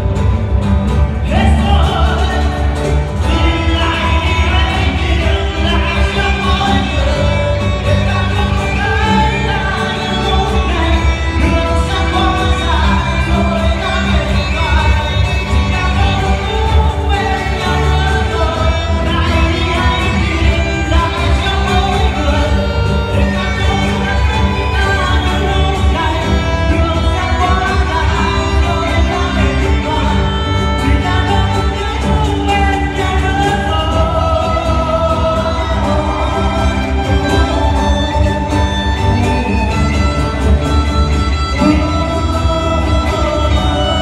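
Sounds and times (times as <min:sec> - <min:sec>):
strummed guitars: 0:00.0 - 0:44.0
voices singing together: 0:01.3 - 0:40.1.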